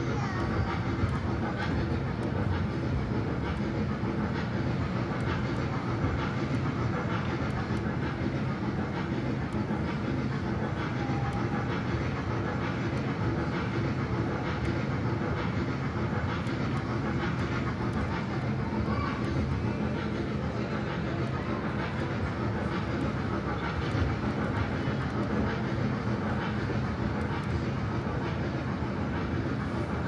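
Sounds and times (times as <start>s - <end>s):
ride-on train rumble: 0.0s - 30.0s.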